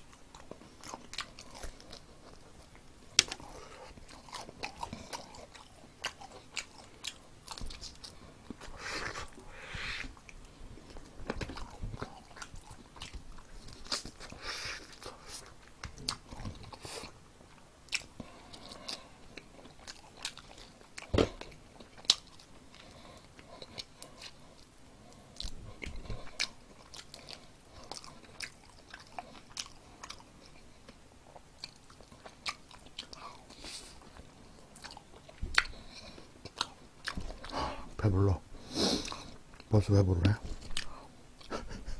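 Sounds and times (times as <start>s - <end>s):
person chewing crunchy food: 0.0s - 41.5s.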